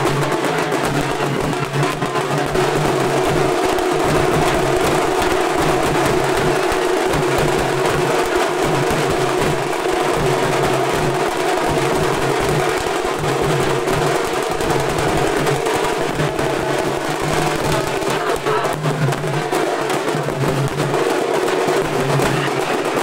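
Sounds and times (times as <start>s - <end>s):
drum-driven dance music: 0.0s - 23.0s.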